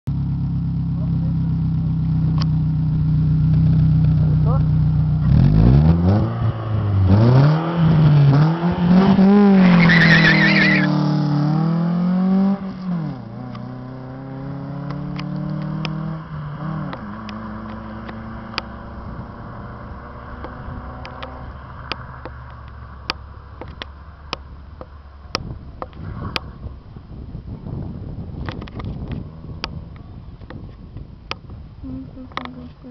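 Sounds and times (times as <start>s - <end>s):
car engine revving and idling: 0.1s - 26.9s.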